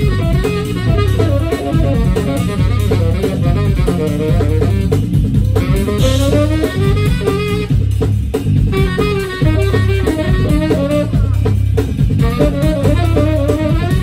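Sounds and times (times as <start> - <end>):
drum kit: 0.0 - 14.0
steady bass: 0.0 - 14.0
tenor saxophone melody: 0.0 - 14.0.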